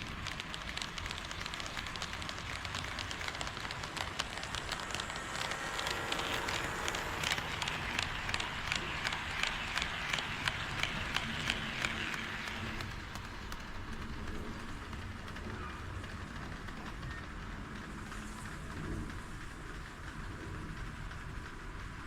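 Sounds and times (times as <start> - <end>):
model train wheels clicking: 0.0 - 22.0
steady running hiss: 0.0 - 22.0.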